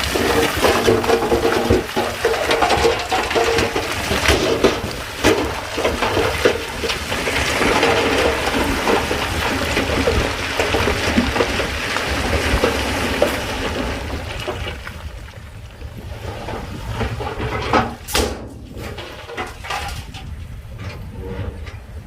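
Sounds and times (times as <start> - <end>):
diesel engine rumble: 0.0 - 22.0
rocks sliding and knocking together: 0.0 - 22.0.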